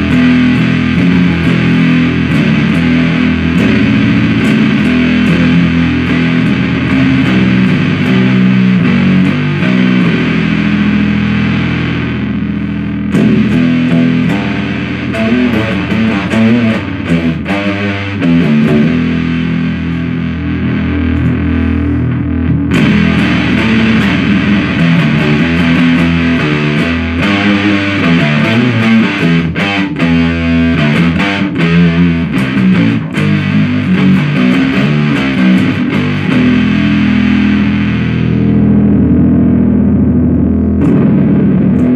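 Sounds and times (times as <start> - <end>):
fuzz-distorted bass guitar riffing: 0.0 - 41.9.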